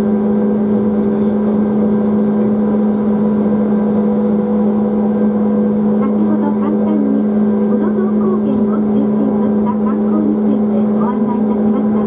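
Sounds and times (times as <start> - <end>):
vehicle running rumble: 0.0 - 12.0.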